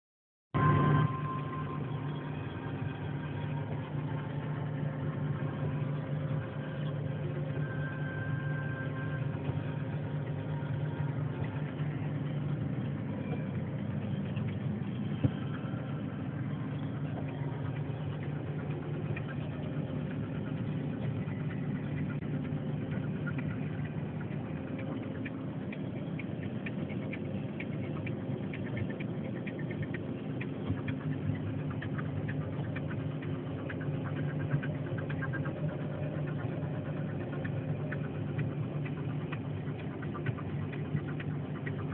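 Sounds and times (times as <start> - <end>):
truck diesel engine droning: 0.6 - 41.9
light rapid ticking: 1.4 - 41.9.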